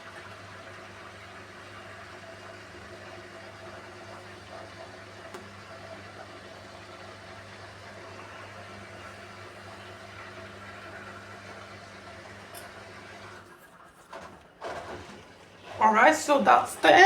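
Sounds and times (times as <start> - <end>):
washing machine drain pump humming: 0.0 - 17.0.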